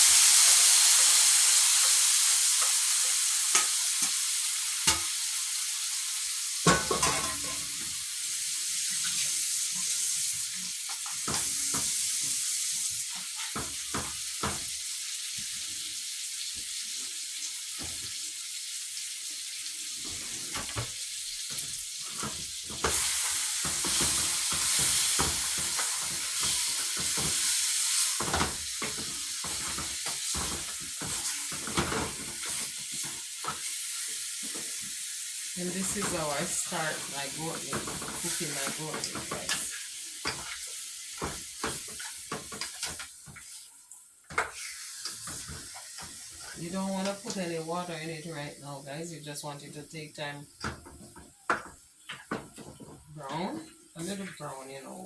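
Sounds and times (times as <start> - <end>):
meat sizzling in oil: 0.0 - 55.0.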